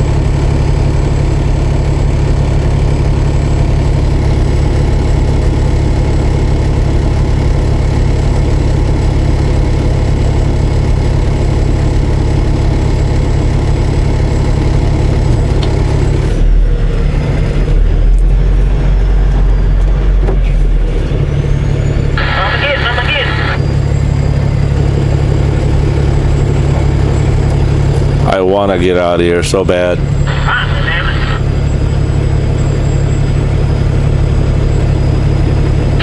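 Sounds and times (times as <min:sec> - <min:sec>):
truck diesel engine idling: 0:00.0 - 0:36.0.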